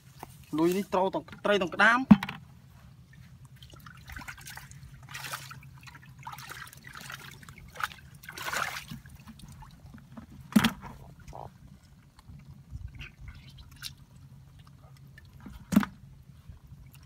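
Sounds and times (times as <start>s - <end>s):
muddy water splashing: 2.9s - 17.0s.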